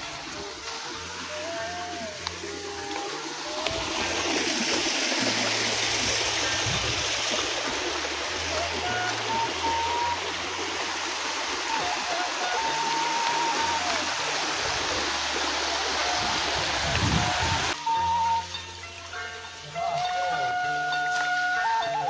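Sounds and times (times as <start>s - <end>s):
water rushing over weir: 0.0s - 22.0s.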